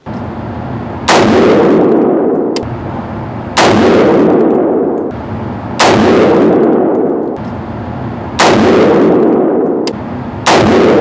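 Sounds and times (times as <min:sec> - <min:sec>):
rifle shots echoing indoors: 0:00.1 - 0:11.0.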